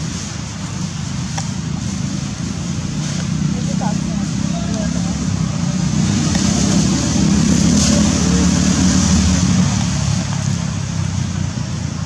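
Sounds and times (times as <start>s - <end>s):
motor vehicle passing: 0.0s - 12.0s.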